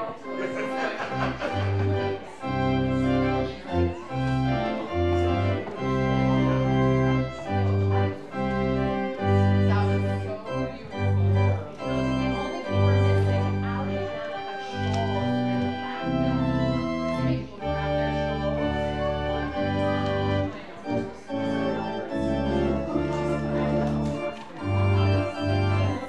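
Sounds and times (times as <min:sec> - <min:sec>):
organ music: 0:00.0 - 0:26.0.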